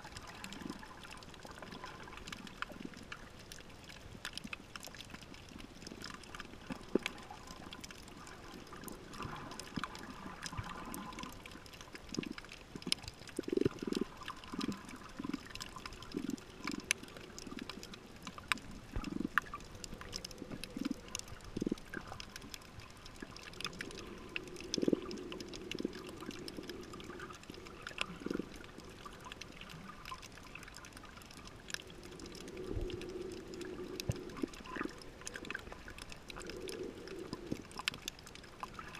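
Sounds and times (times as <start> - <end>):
sharp underwater clicks: 0.0 - 38.9
underwater bubbling and gurgling: 0.0 - 38.9.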